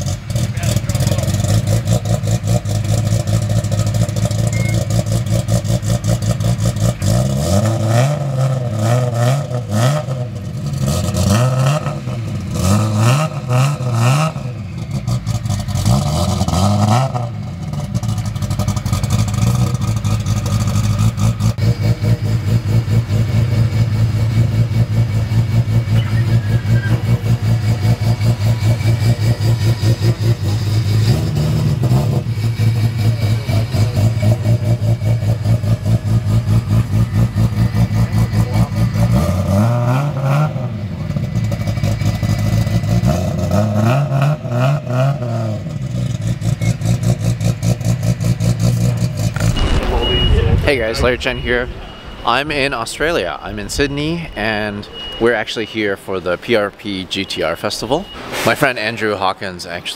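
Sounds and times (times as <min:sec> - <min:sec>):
car engine idling and revving: 0:00.0 - 0:56.8.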